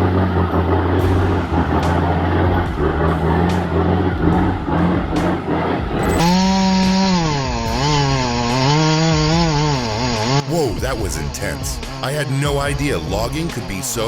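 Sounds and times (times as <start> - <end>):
chainsaw running under load: 0.0 - 14.0
heavy engine running: 0.0 - 14.0.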